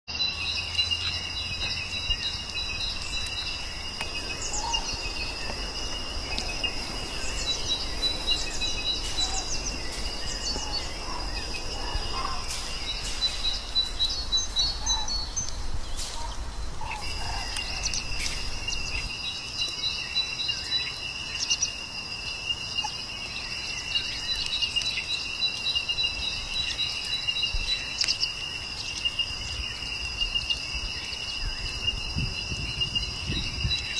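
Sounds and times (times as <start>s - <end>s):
bird chirps: 0.1s - 33.9s
insects trilling: 0.1s - 33.9s.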